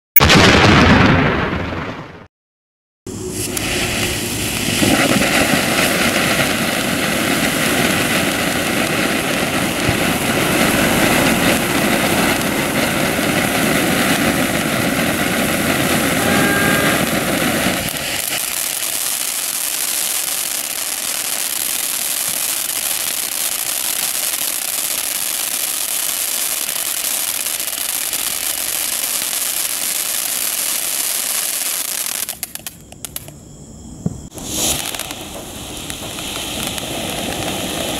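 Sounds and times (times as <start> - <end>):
fountain firework rushing hiss: 3.1 - 37.9
firework pops and crackles: 3.3 - 33.4, 34.0 - 37.9.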